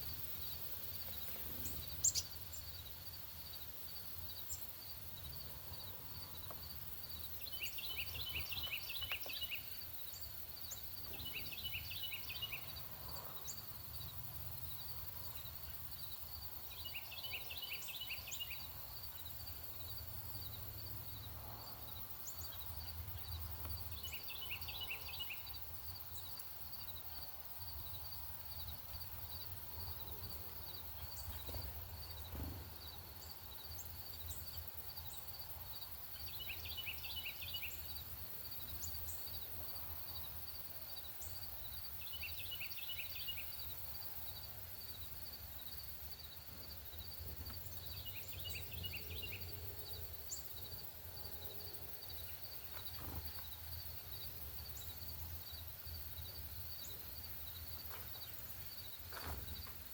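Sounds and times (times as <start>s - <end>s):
high insect trill: 0.0s - 59.9s.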